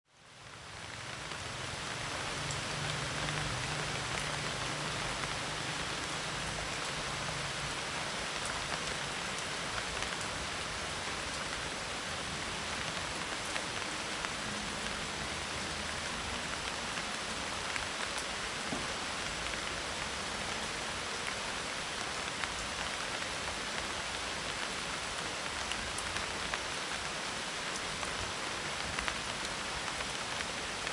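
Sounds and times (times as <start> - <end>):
raindrops ticking on a leaf roof: 0.1 - 30.9
steady rain falling: 0.1 - 30.9.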